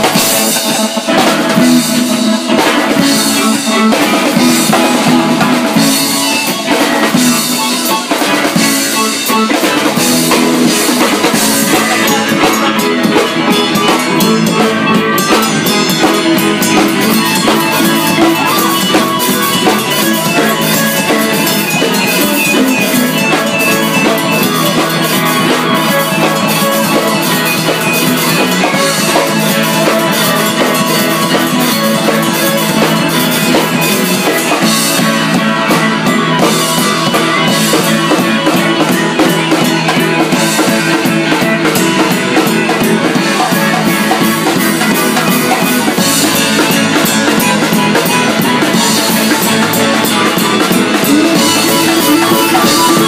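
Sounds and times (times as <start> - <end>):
drum kit and cymbals: 0.0 - 53.0
electric bass: 0.0 - 53.0.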